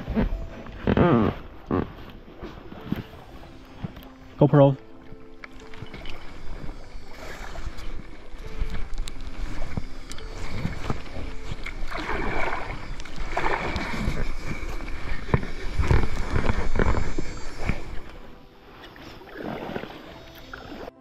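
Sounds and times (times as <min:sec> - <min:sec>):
paddle splashing water: 0:00.0 - 0:21.0.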